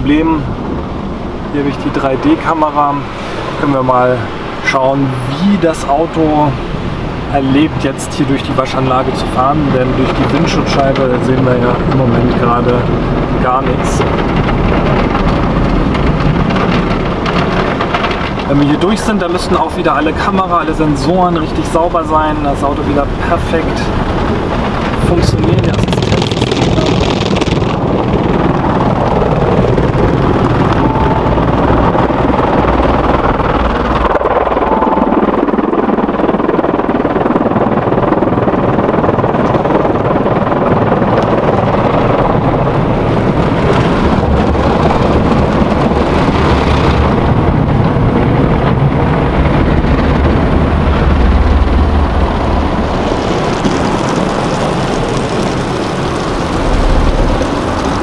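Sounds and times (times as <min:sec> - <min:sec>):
car wash brushes and water rumbling: 0:00.0 - 0:36.0, 0:39.4 - 0:58.0.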